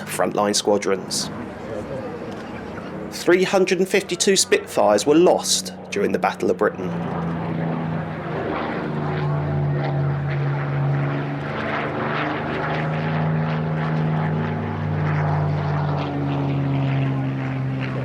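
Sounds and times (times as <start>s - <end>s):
piston aircraft engines droning: 0.0s - 18.0s.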